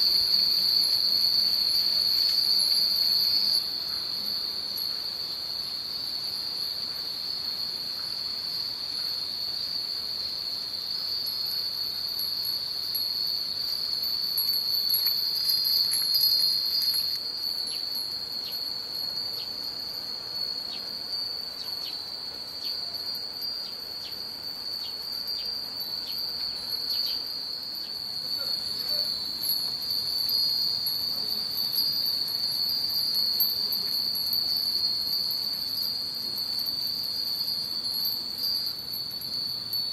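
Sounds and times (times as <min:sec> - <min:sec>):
wind bells ringing: 0:00.0 - 0:39.9.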